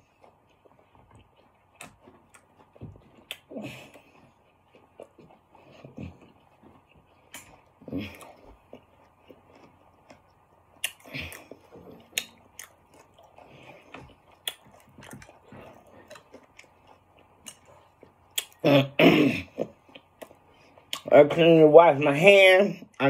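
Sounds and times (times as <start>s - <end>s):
close chewing and mouth sounds: 0.0s - 23.0s
mouth smacks and clicks: 0.2s - 18.6s, 19.6s - 21.1s.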